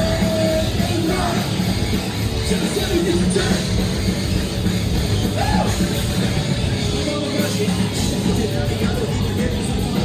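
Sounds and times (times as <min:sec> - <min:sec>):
distorted electric guitars: 0:00.0 - 0:10.0
drums: 0:00.0 - 0:10.0.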